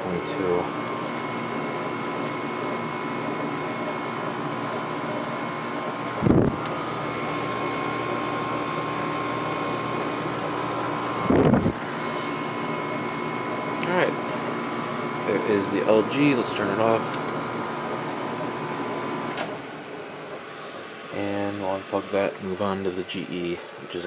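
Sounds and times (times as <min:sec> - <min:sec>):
air conditioner whir and hum: 0:00.0 - 0:24.0.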